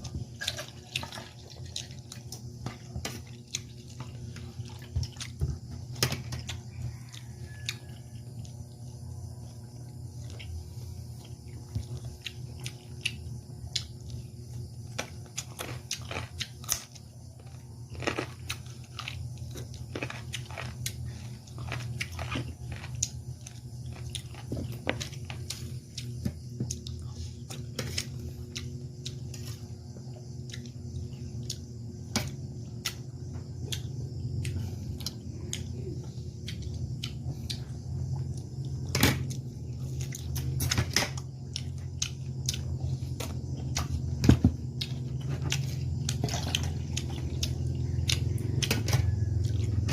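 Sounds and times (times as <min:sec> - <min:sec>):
person chewing and biting food: 0:00.0 - 0:49.9
steady low hum: 0:00.0 - 0:49.9.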